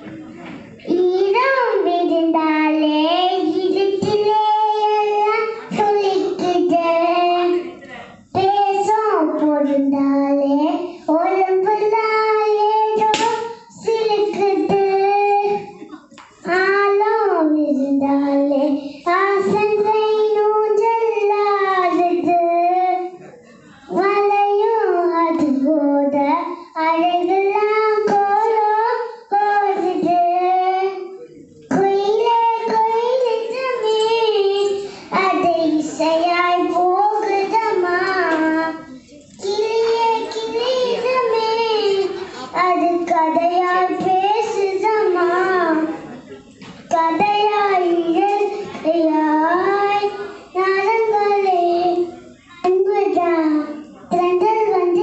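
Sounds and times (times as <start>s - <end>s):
girl singing into microphone: 0.8s - 46.0s, 46.8s - 55.0s.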